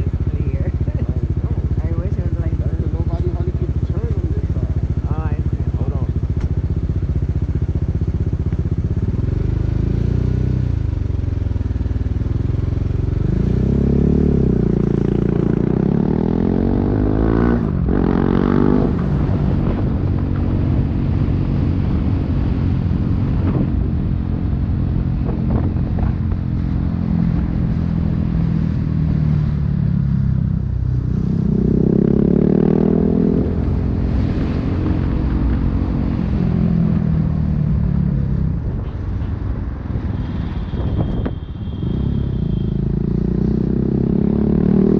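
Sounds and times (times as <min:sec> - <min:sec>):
motorcycle engine revving: 0:00.0 - 0:39.2, 0:39.9 - 0:44.9.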